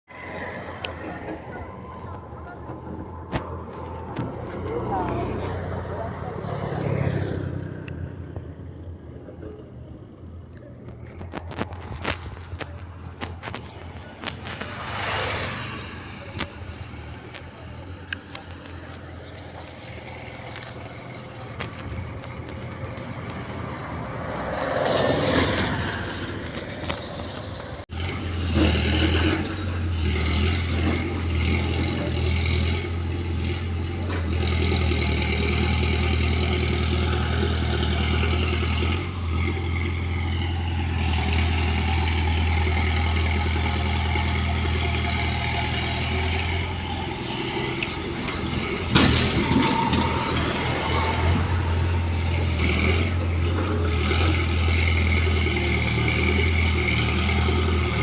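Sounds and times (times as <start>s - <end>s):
road noise: 0.0s - 58.0s
vehicle engine running: 0.1s - 58.0s.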